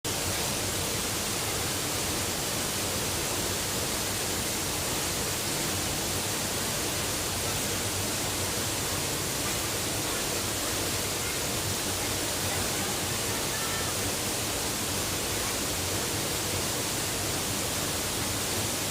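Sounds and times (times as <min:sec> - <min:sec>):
waterfall rushing: 0:00.1 - 0:18.9.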